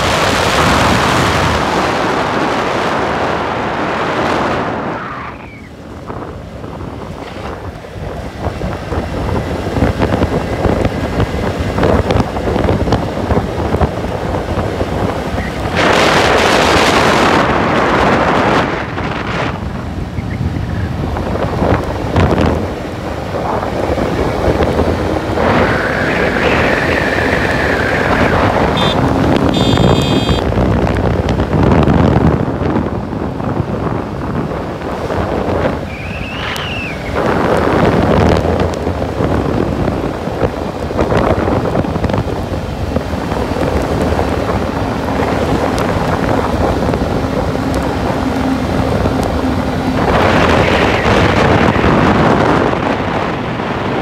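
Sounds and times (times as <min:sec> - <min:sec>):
vehicle driving on wet road: 0:00.0 - 0:54.0
wind buffeting microphone: 0:00.0 - 0:54.0.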